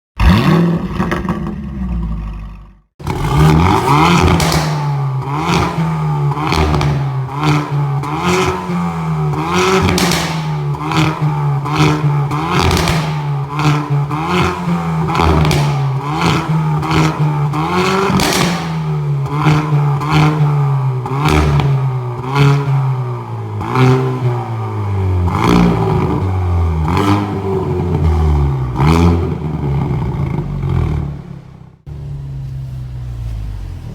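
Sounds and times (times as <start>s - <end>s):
car engine revving: 0.2s - 33.9s
exhaust crackles and pops: 0.2s - 33.9s.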